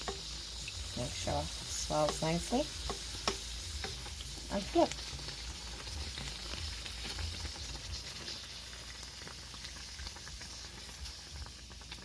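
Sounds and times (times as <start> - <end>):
dough sizzling in hot oil: 0.0 - 12.0.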